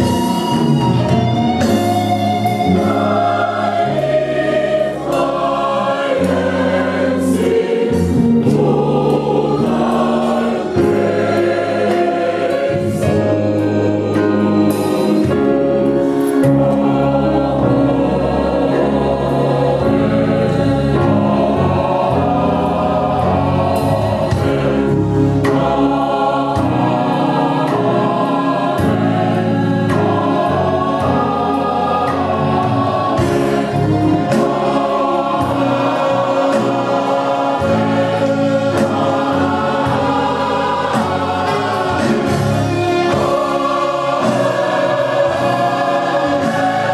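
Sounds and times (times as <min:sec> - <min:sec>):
drum kit: 0:00.0 - 0:46.9
gospel choir singing: 0:00.0 - 0:46.9
guitar: 0:00.0 - 0:46.9.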